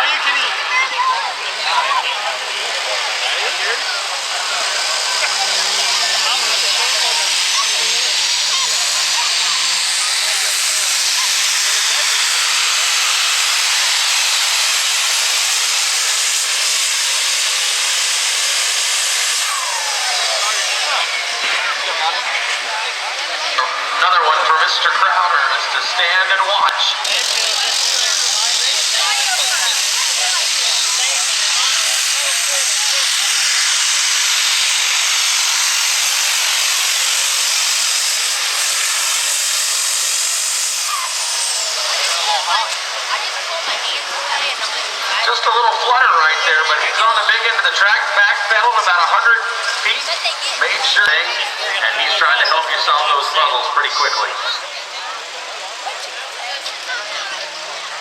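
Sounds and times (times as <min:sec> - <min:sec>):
pulling truck engine at full throttle: 0:00.0 - 0:58.0.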